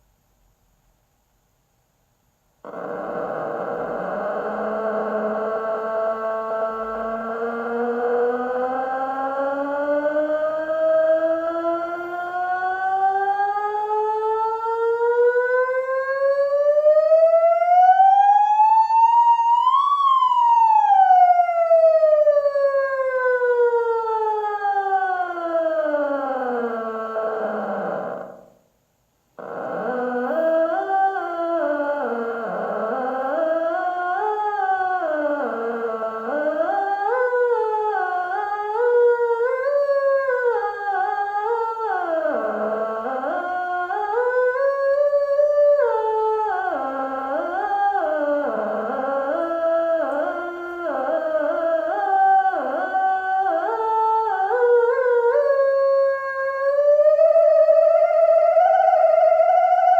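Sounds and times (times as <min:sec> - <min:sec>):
theremin sliding in pitch: 0:02.6 - 0:28.5, 0:29.4 - 0:59.9.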